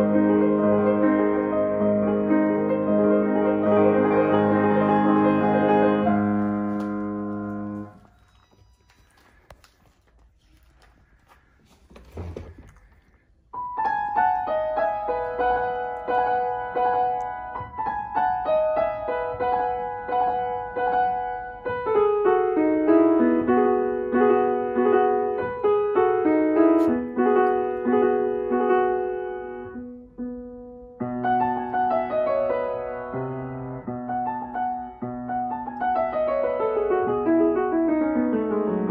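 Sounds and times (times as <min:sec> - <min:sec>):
grand piano slow melody: 0:00.0 - 0:09.2, 0:13.5 - 0:38.9.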